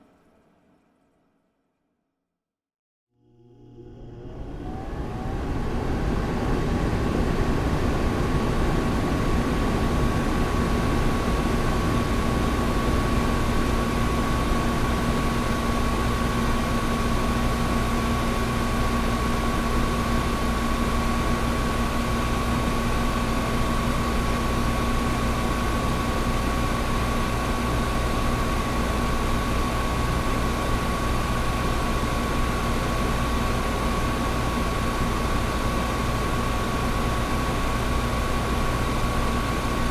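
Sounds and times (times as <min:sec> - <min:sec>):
window air conditioner running: 0:03.3 - 0:39.9.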